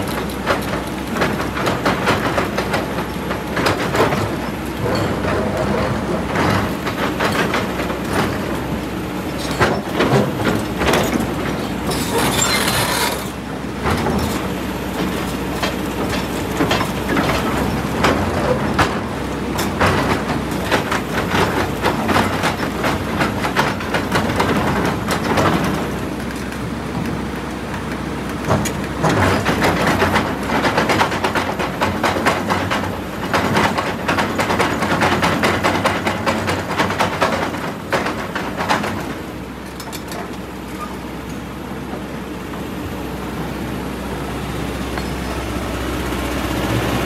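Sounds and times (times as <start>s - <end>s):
excavator diesel engine: 0.0s - 47.0s.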